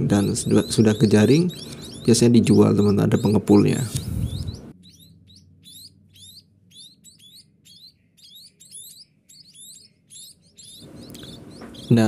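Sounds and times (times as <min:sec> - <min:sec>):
young birds chirping: 0:00.0 - 0:12.0.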